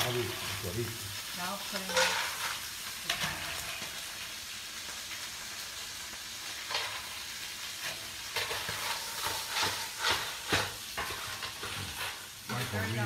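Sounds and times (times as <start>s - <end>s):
clams sizzling in oil: 0.0s - 13.0s.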